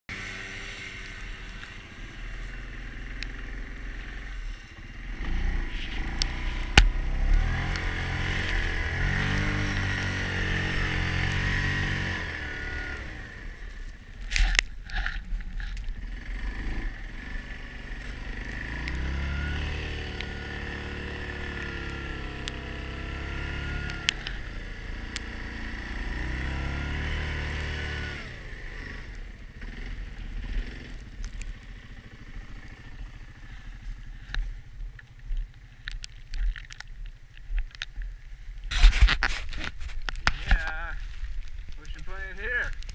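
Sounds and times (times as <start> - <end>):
atv engine revving: 0.1 - 36.8.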